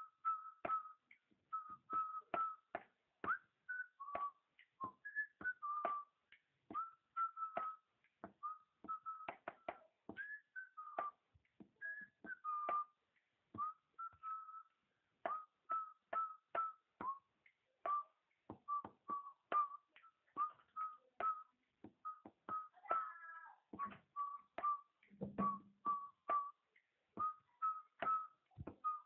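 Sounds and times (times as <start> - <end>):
short whistled chirps: 0.0 - 13.0, 13.6 - 29.0.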